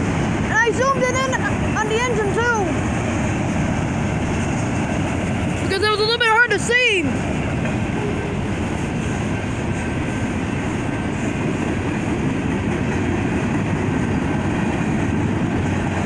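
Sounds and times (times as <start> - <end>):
freight train cars rolling past: 0.0 - 16.0.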